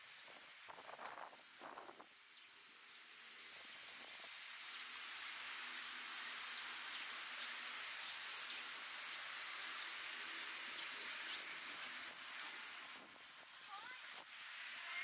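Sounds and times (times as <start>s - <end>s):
high steady hiss: 0.0s - 15.0s.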